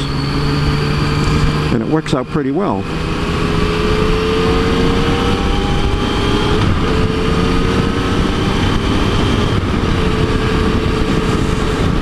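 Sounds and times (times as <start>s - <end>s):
motorcycle engine cruising: 0.0s - 12.0s
wind and road rush: 0.0s - 12.0s.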